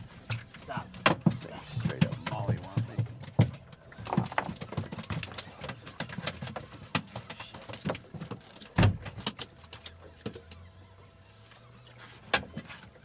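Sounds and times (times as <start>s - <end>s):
knocks and clatter on a boat: 0.0s - 13.0s.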